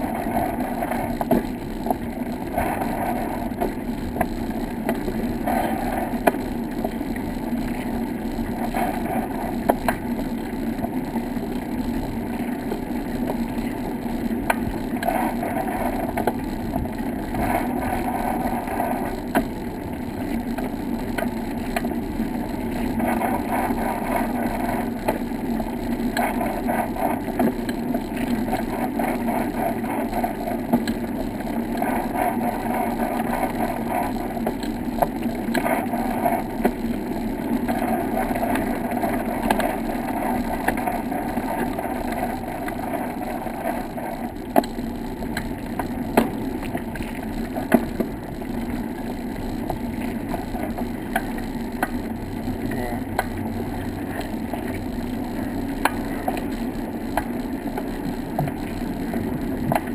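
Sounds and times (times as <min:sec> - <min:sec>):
bicycle tyres rolling over wooden boards: 0:00.0 - 0:59.9.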